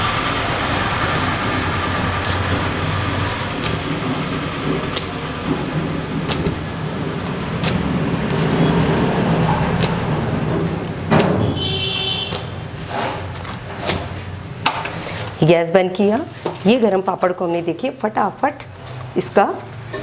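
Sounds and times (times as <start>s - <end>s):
gas burner flame: 0.0s - 20.0s
sharp clicks of roasting: 0.5s - 16.7s.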